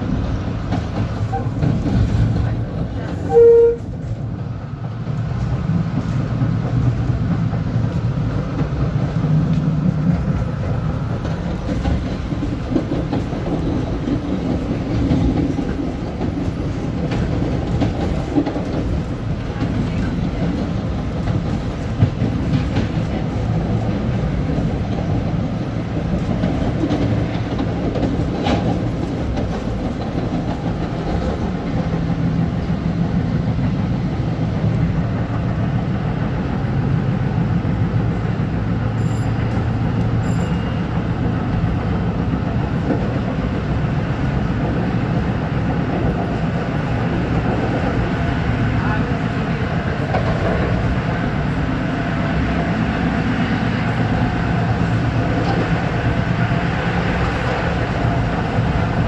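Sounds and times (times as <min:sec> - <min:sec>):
train rumbling on track: 0:00.0 - 0:59.0.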